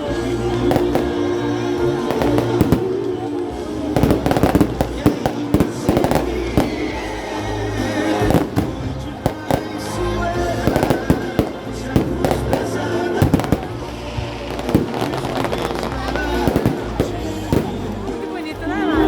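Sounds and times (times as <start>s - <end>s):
fireworks banging and crackling: 0.0s - 19.0s
loud music with steady bass: 0.0s - 19.0s.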